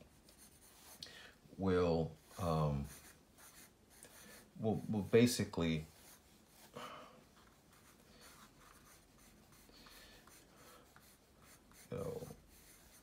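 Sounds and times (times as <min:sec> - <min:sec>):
pencil scratching on paper: 0:00.0 - 0:01.0, 0:02.1 - 0:13.0.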